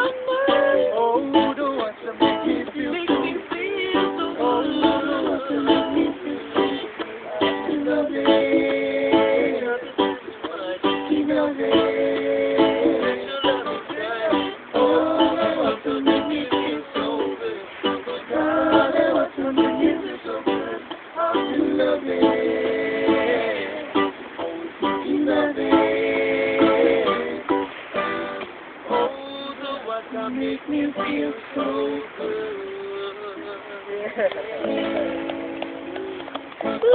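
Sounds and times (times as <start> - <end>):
acoustic guitar: 0.0 - 36.9
ukulele strumming chords: 0.0 - 36.9.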